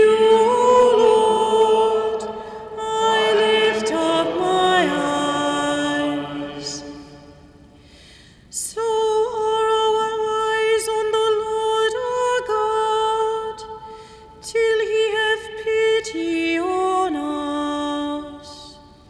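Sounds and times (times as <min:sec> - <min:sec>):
sung psalm melody: 0:00.0 - 0:18.4.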